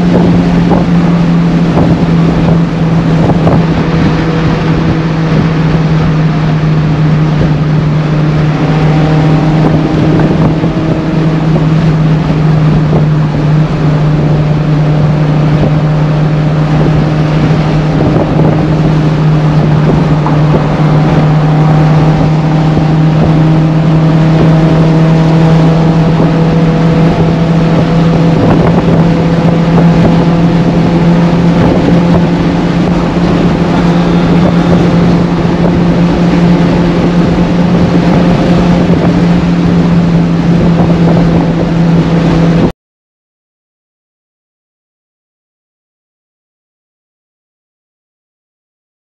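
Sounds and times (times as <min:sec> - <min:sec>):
car engine drone: 0:00.0 - 0:42.7
road and wind noise: 0:00.0 - 0:42.7.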